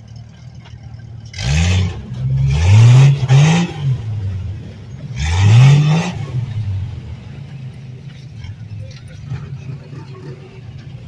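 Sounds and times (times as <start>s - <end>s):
engine idling and revving: 0.0s - 11.0s.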